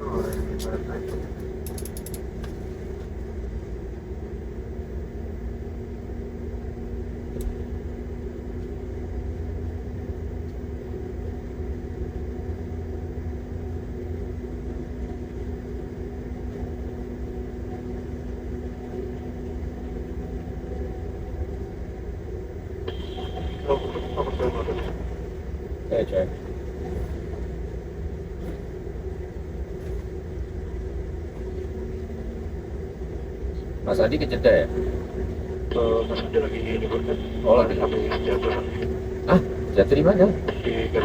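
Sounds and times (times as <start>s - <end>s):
airliner engine rumble: 0.0s - 41.0s
high engine whine: 0.0s - 41.0s.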